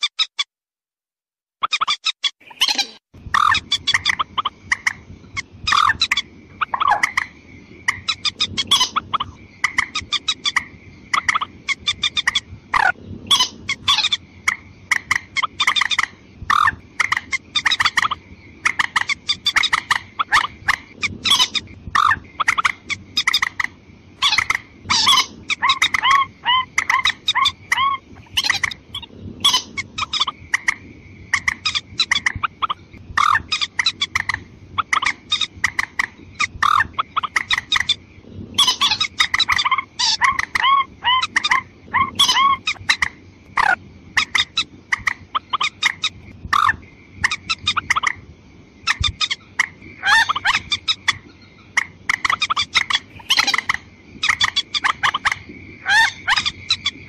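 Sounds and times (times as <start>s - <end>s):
rail bird clucking calls: 1.6s - 38.0s, 38.6s - 48.2s, 48.8s - 57.0s.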